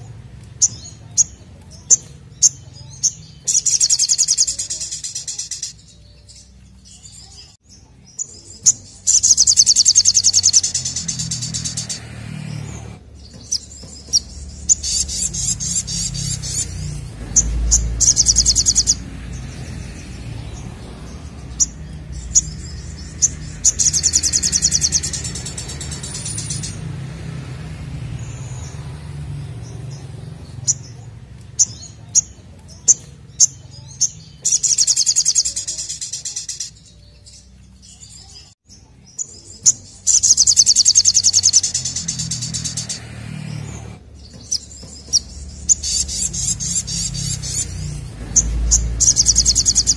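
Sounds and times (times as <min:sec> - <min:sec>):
bird chirps: 0:00.0 - 0:49.9
bird trilling song: 0:00.0 - 0:49.9.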